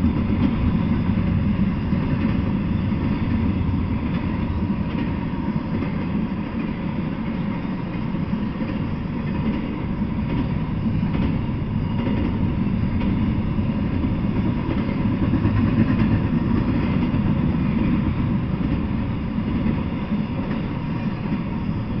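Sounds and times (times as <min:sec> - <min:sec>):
freight train passing: 0:00.0 - 0:22.0.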